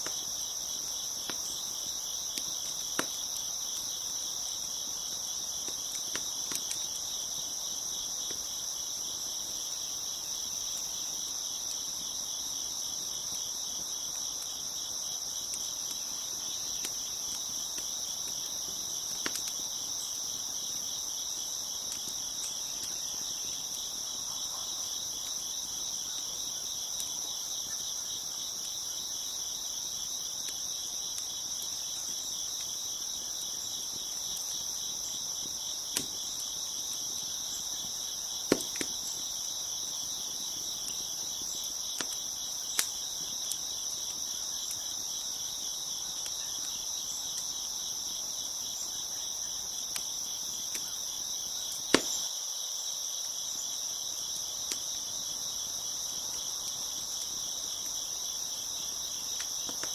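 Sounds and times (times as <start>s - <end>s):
wood fire crackling: 0.0s - 52.3s, 54.1s - 59.9s
crickets chirping: 0.0s - 59.9s.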